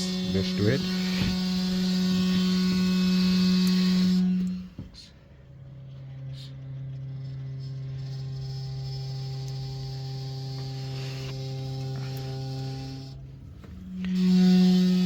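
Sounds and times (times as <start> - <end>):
heating coil humming drone: 0.0 - 15.0.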